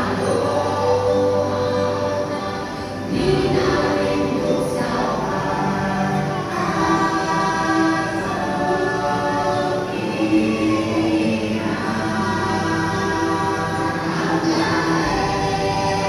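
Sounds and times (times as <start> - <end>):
choir singing slow chant: 0.0 - 16.0.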